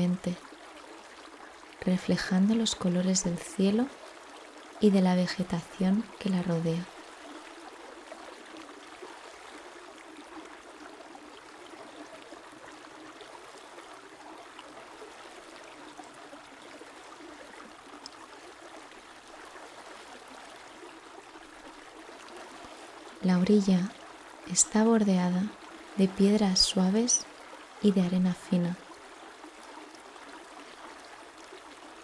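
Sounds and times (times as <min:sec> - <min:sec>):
stream babbling: 0:00.0 - 0:32.0.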